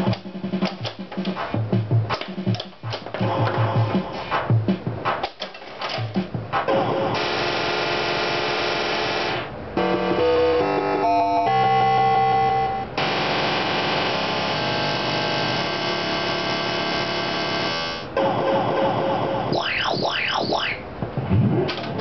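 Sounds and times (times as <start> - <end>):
pinball game music and effects: 0.0 - 1.4, 2.1 - 4.5, 5.1 - 22.0.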